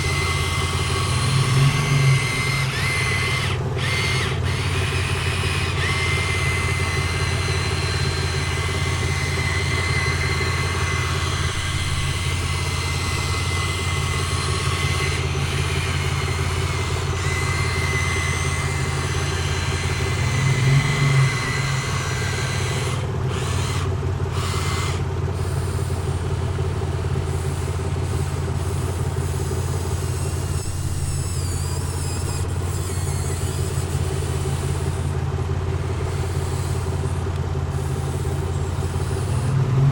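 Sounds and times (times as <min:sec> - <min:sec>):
excavator engine drone: 0:00.0 - 0:39.9.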